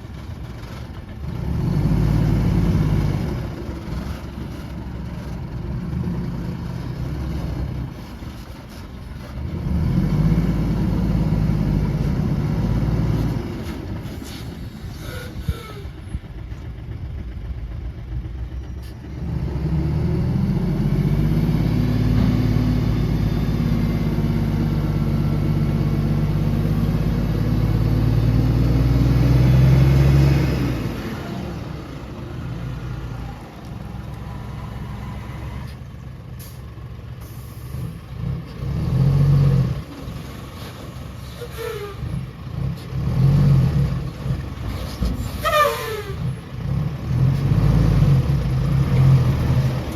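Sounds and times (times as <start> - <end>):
heavy diesel engine under load: 0.0 - 49.9.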